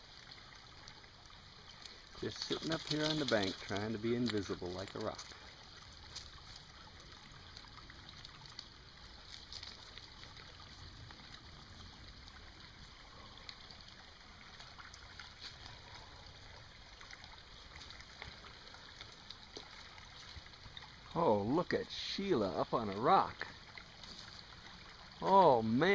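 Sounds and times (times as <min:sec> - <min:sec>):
creek trickling: 0:00.0 - 0:25.9.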